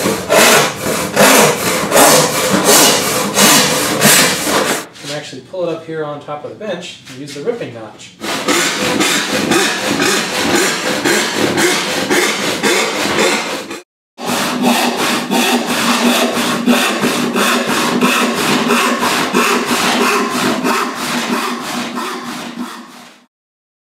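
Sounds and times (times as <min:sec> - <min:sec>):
handsaw cutting wood: 0:00.0 - 0:05.2, 0:08.2 - 0:23.3.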